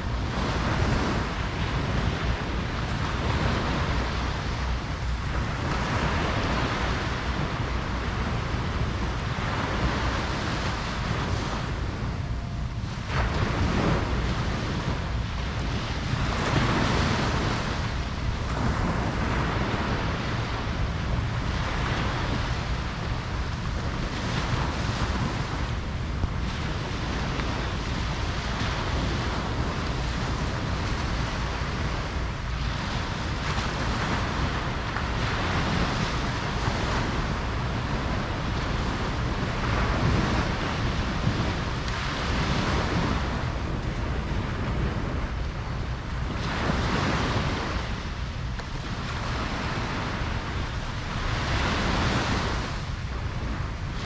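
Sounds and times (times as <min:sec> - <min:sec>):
ocean surf breaking: 0:00.0 - 0:54.0
steady low rumble: 0:00.0 - 0:54.0.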